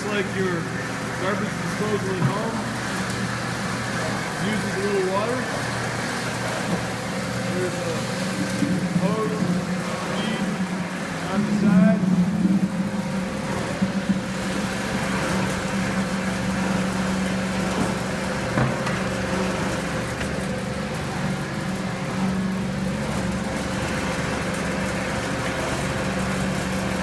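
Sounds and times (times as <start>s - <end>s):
garbage disposal motor hum: 0.0s - 27.0s.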